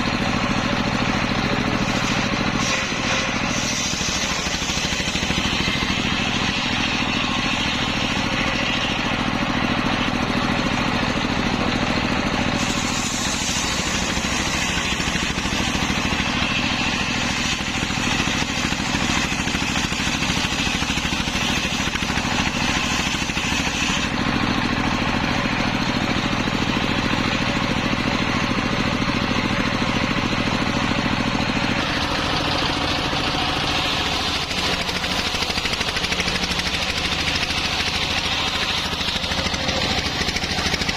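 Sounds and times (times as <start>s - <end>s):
engine-driven circular saw running: 0.0s - 40.9s.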